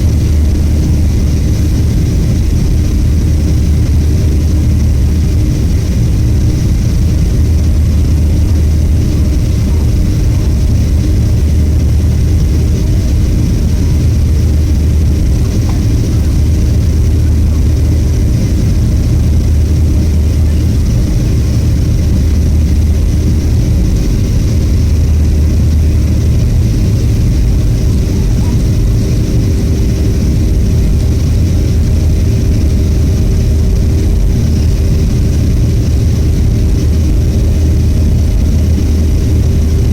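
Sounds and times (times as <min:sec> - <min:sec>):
airliner engines rumbling in flight: 0:00.0 - 0:39.9
faint steady hum: 0:00.0 - 0:39.9.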